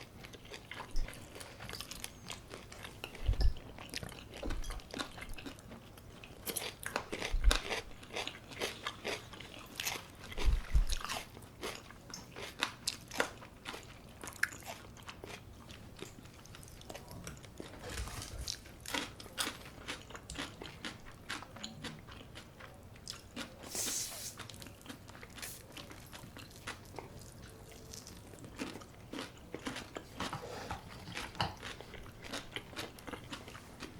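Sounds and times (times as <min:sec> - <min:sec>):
biting and chewing crunchy food: 0:00.0 - 0:23.8, 0:24.4 - 0:33.9.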